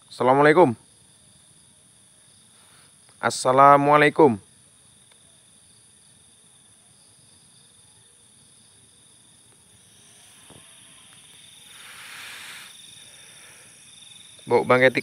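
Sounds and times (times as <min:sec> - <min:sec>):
crickets and insects chirring: 0:00.0 - 0:15.0
soft hiss: 0:00.0 - 0:15.0.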